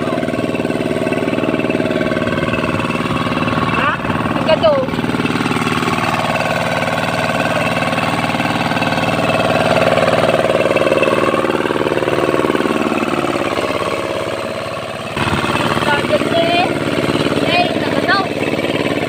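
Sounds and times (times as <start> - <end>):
hand tractor engine running: 0.0 - 19.0.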